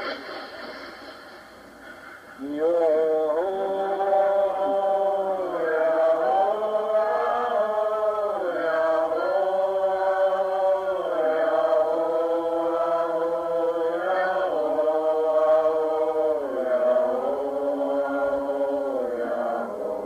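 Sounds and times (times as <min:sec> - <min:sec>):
voices chanting held notes: 0:02.4 - 0:20.0.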